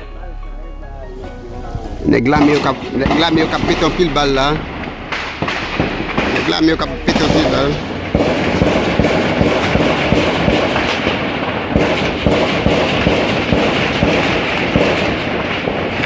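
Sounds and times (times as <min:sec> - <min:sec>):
rapid gunfire: 0:02.4 - 0:16.0.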